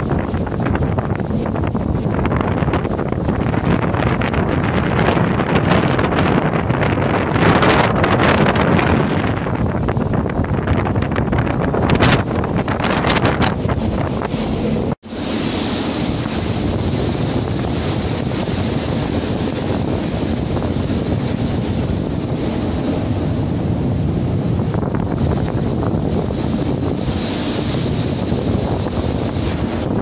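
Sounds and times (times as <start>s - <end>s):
rough sea breaking: 0.0s - 30.0s
wind blowing across microphone: 0.0s - 30.0s.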